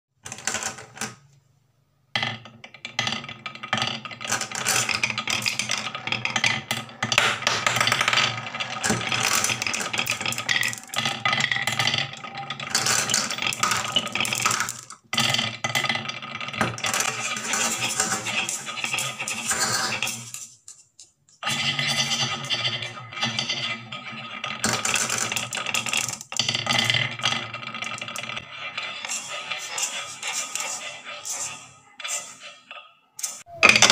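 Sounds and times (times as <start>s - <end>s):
marbles rolling down wooden run: 0.2s - 1.2s, 2.1s - 20.7s, 21.4s - 32.3s.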